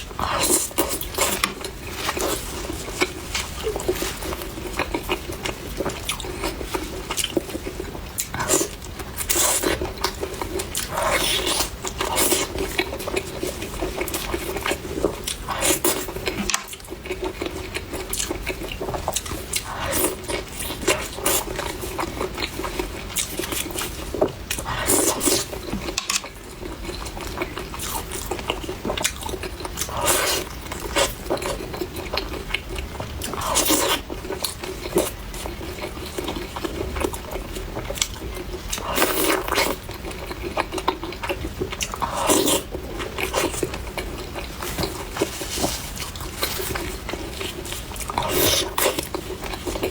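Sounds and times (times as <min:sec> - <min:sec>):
wet chewing: 0:00.0 - 0:49.9.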